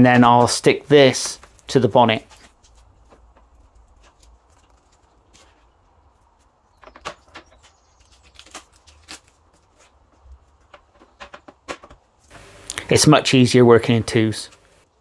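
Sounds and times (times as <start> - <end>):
masking tape crackling: 0.0 - 13.1.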